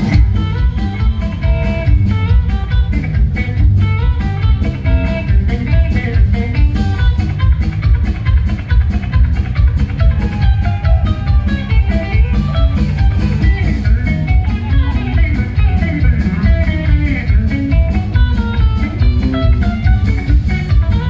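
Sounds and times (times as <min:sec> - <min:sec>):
fast electric guitar picking: 0:00.0 - 0:21.0
rock drum beat: 0:00.0 - 0:21.0.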